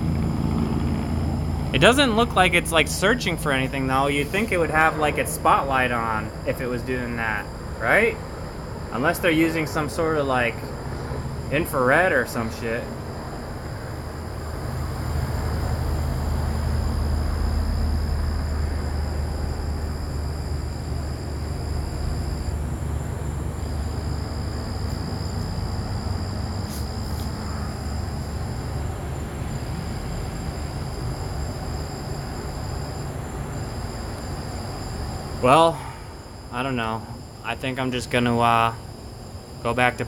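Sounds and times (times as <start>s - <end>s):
helicopter rotor rumble: 0.0s - 40.0s
steady high trill: 1.3s - 13.2s, 14.0s - 38.8s.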